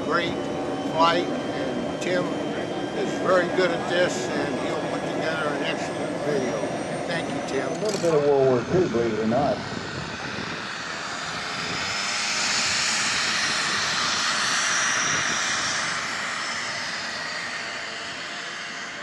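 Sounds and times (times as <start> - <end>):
model plane engine and propeller: 0.0 - 19.0.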